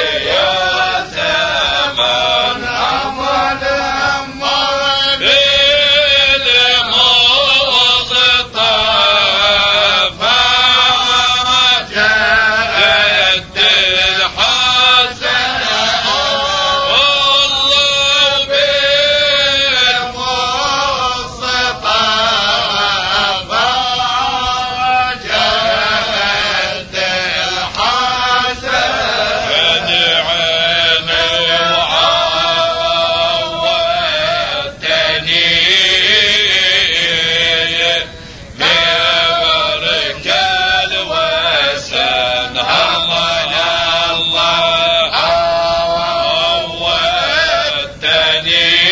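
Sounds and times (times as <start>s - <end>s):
man chanting: 0.0s - 48.9s.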